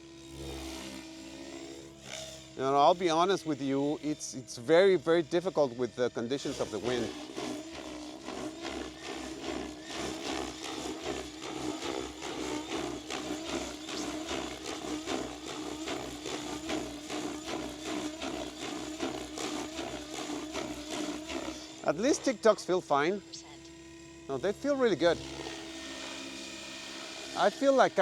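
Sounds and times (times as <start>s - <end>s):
rc helicopter rotor whine: 0.0s - 28.0s.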